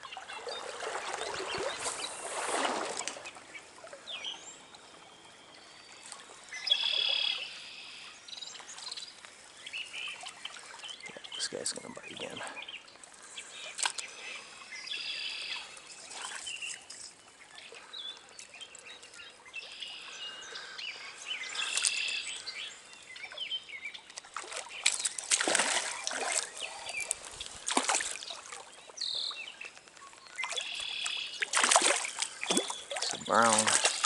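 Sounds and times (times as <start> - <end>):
water splashing: 0.0 - 4.4, 8.6 - 34.0
songbirds singing and chirping: 0.0 - 34.0
stream trickling: 0.0 - 34.0.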